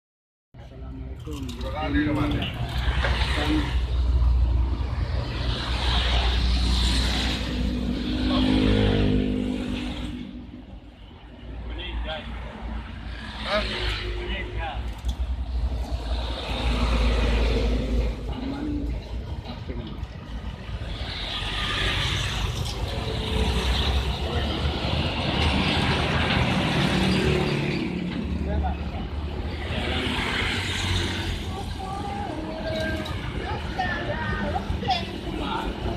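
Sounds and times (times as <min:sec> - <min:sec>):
road traffic passing: 0:00.6 - 0:35.9
vehicle engine and tyre rumble: 0:00.6 - 0:35.9.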